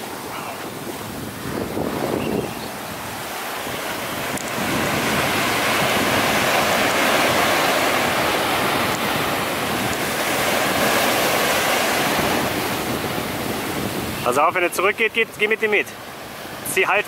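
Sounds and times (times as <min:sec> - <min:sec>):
surf waves breaking on beach: 0:00.0 - 0:17.0.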